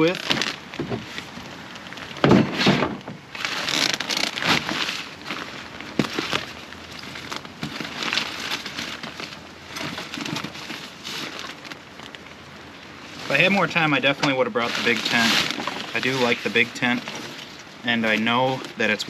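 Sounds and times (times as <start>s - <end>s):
tent bag rustling and crinkling: 0.0s - 19.0s.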